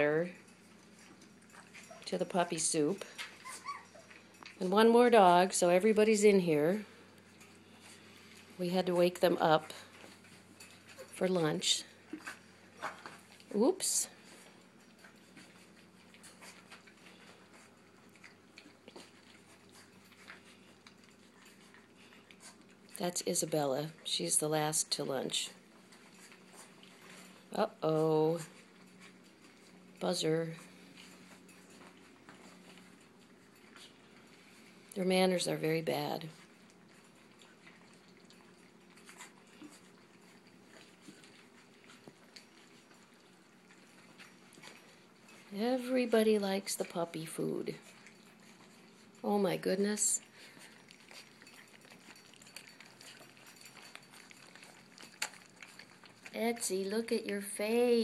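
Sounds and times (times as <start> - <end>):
low steady hum: 0.0 - 58.0
puppies lapping and chewing: 0.0 - 58.0.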